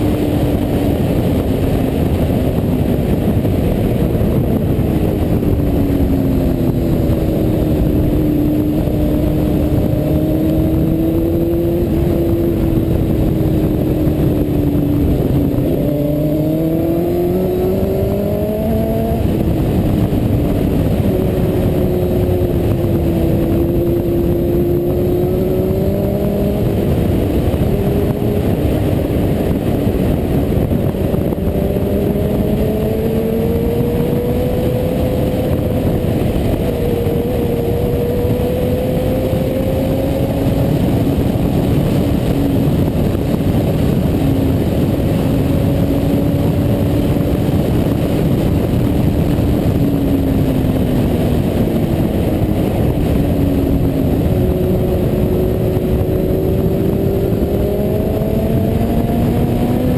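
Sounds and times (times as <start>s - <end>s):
motorcycle engine: 0.0s - 59.9s
wind rush over microphone: 0.0s - 59.9s.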